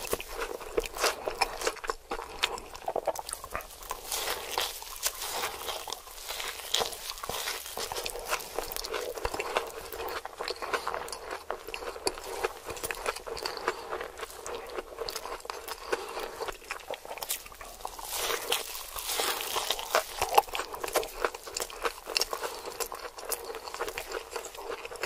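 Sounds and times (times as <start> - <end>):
chewing crispy fried food: 0.0 - 25.0.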